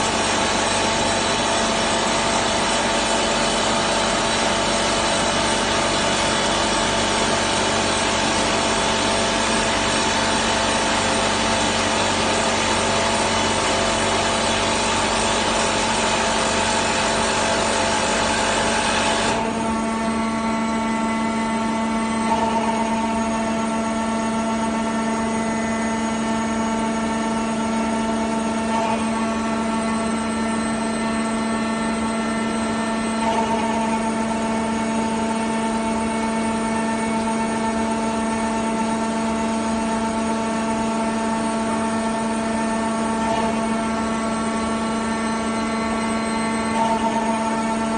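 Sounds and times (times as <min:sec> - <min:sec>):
drilling machine racket: 0:00.0 - 0:47.9
steady machine hum: 0:00.0 - 0:47.9.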